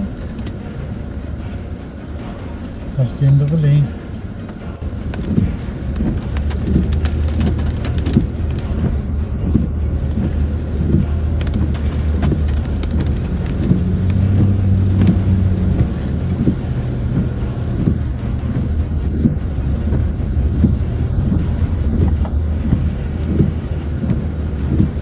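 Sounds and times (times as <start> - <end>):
car engine drone: 0.0 - 25.0
road noise: 0.0 - 25.0.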